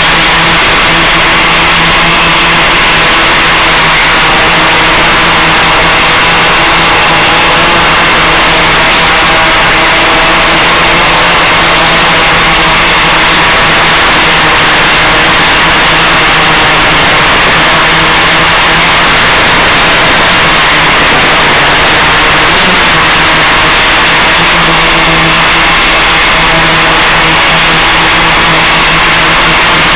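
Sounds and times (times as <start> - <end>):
loud steady hiss: 0.0 - 29.9.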